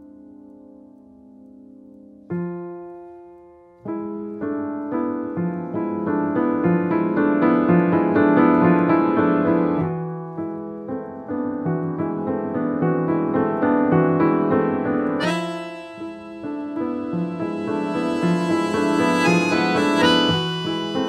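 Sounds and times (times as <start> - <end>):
piano playing: 0.0 - 21.0.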